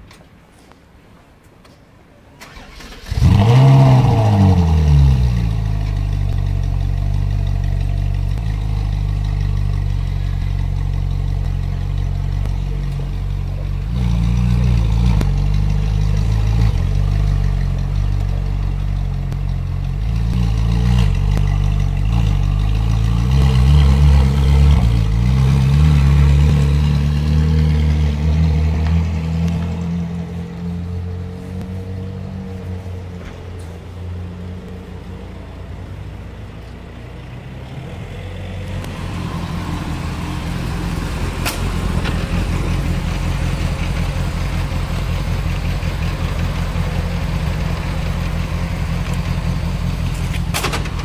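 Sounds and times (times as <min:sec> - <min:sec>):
sports car engine revving and idling: 0:03.0 - 0:51.0.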